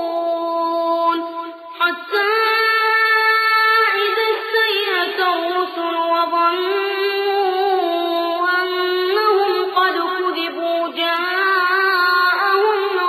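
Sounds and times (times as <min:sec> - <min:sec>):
boyish voice chanting recitation: 0:00.0 - 0:13.0.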